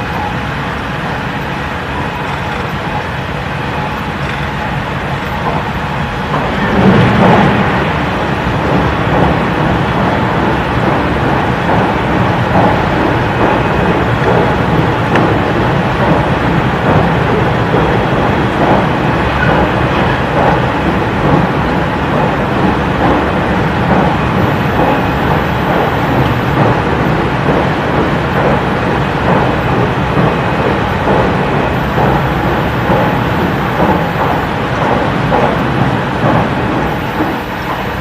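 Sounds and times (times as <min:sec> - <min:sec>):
air conditioning blowing: 0:00.0 - 0:38.0
train wheels rumbling on rails: 0:00.0 - 0:38.0.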